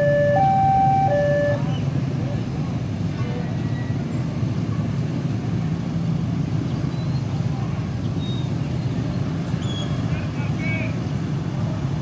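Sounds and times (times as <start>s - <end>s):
diesel train engine rumble: 0.0s - 12.0s.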